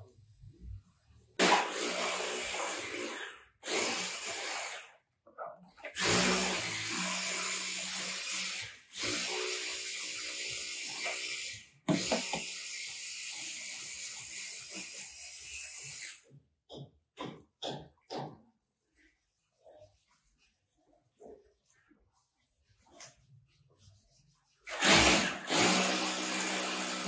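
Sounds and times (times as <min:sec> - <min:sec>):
mixture mixed in plastic bucket: 0:00.0 - 0:27.0.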